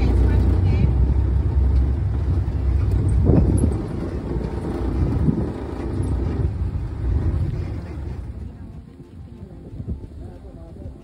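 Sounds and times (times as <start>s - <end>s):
vehicle engine and road rumble: 0.0s - 11.0s
wind on microphone: 0.0s - 11.0s.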